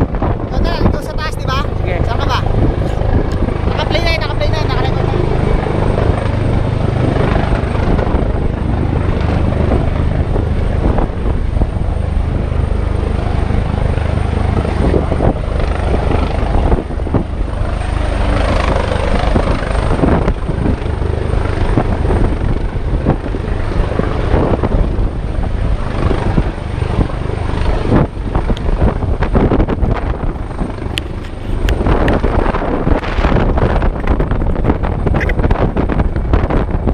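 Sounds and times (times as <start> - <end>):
helicopter rotor and engine drone: 0.0 - 36.9.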